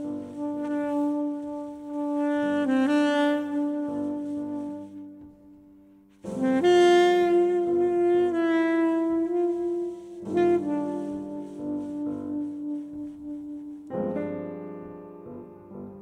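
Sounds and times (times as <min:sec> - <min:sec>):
soprano saxophone playing: 0:00.0 - 0:14.2.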